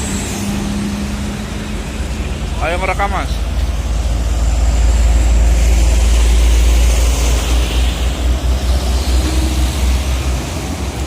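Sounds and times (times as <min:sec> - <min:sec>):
large vehicle engine rumble: 0:00.0 - 0:11.0.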